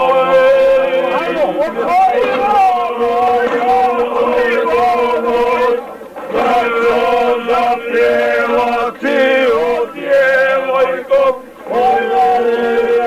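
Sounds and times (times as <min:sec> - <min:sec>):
men singing folk song: 0:00.0 - 0:13.0.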